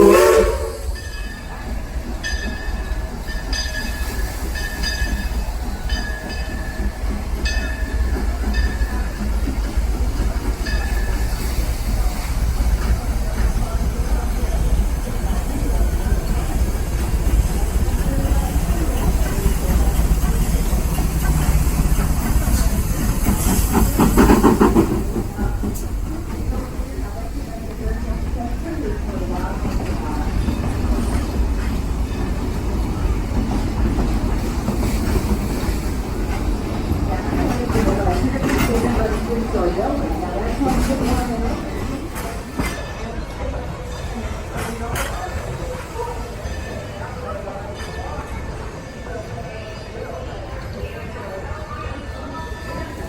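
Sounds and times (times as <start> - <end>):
steam hissing: 0.0 - 43.4
train rumbling: 0.0 - 53.0.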